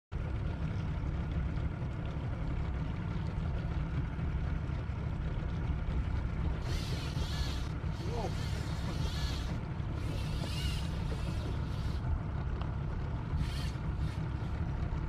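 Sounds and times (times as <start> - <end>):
boat engine low rumble: 0.1 - 15.0.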